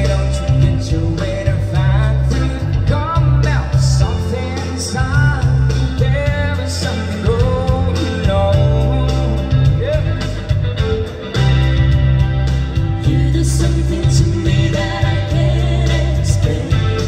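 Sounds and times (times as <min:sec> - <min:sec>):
live band music: 0:00.0 - 0:17.0
steady bass line: 0:00.0 - 0:17.0.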